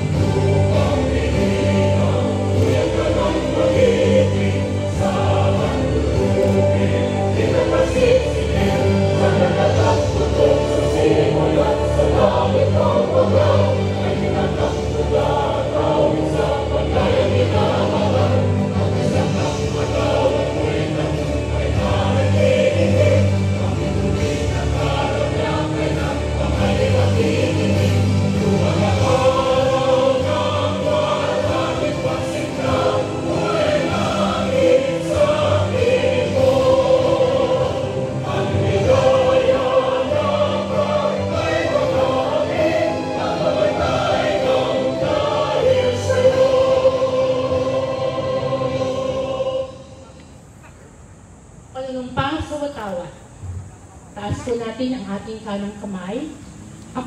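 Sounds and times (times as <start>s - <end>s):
choir singing: 0.0s - 50.4s.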